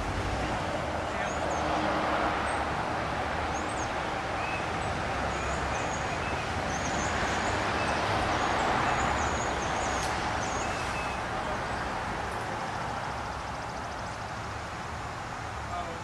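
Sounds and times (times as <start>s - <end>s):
traffic noise: 0.0s - 16.0s
birds chirping: 0.8s - 2.8s, 3.4s - 14.8s.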